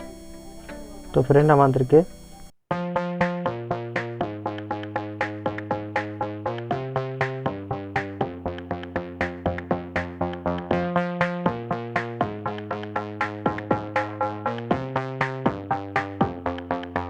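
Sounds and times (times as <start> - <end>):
synthesizer plucked notes: 0.0 - 17.0.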